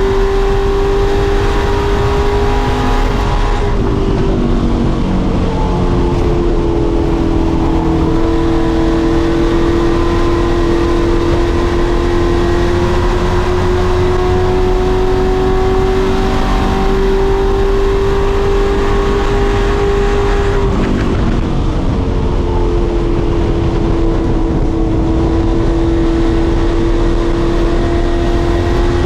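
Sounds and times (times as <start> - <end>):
race truck engine at high revs: 0.0 - 29.0.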